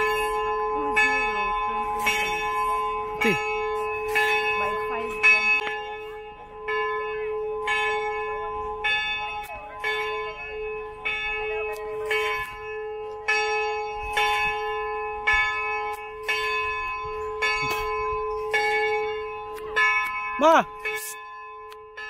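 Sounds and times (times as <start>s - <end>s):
church bell tolling: 0.0s - 22.0s.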